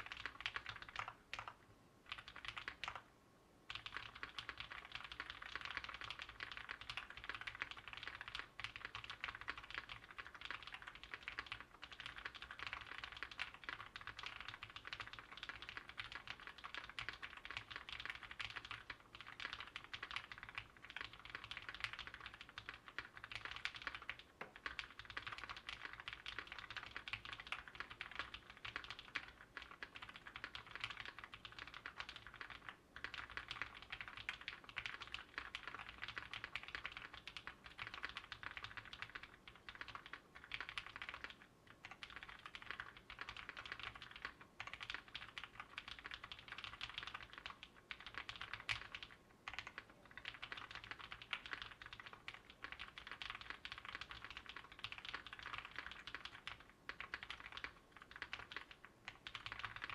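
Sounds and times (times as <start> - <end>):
rapid typing on mechanical keyboard: 0.0 - 3.1, 3.7 - 59.9.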